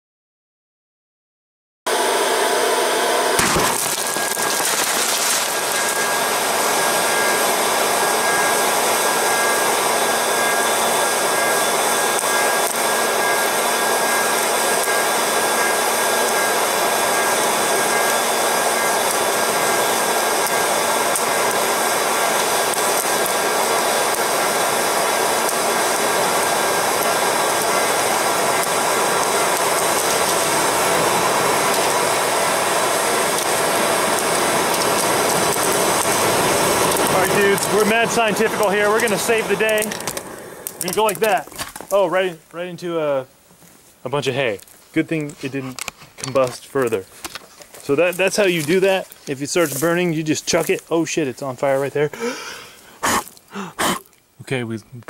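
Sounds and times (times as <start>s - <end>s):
popcorn popper fan blowing: 1.9s - 42.9s, 44.1s - 54.1s.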